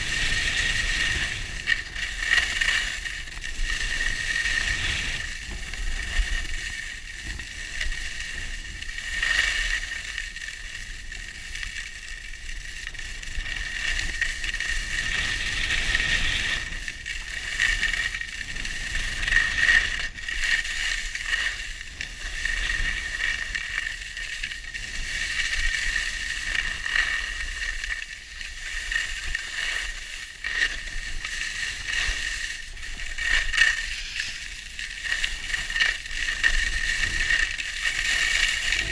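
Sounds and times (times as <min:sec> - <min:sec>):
skis scraping over snow: 0:00.0 - 0:38.9.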